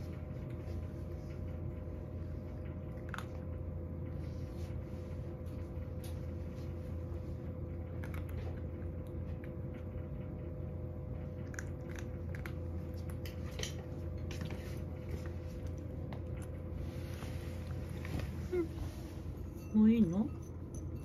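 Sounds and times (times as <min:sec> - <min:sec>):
low hum: 0:00.0 - 0:21.0
cat chewing food: 0:00.1 - 0:18.1.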